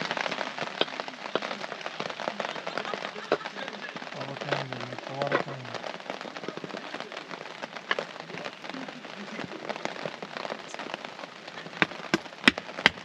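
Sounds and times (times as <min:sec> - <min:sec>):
rain on a tarp: 0:00.0 - 0:13.0.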